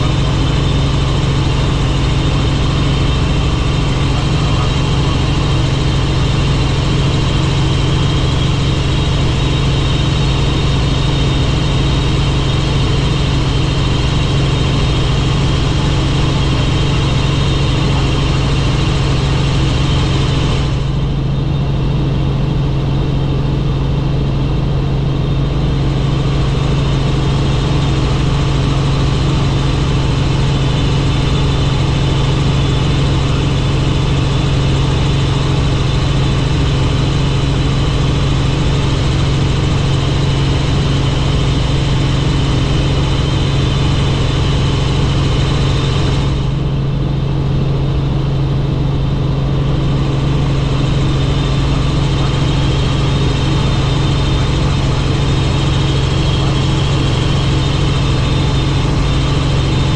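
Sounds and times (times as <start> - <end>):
helicopter drone in flight: 0.0 - 59.9.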